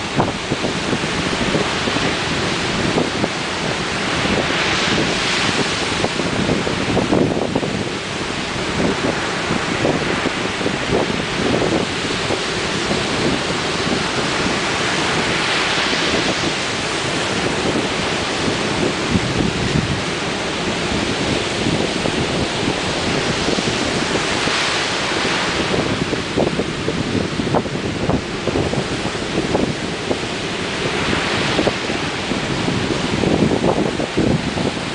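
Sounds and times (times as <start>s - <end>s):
waves breaking: 0.0s - 34.9s
wind buffeting microphone: 0.0s - 34.9s.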